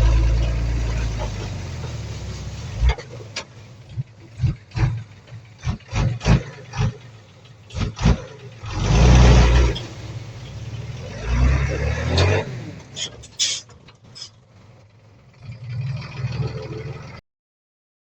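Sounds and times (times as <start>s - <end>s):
bulldozer diesel engine running: 0.0s - 17.2s.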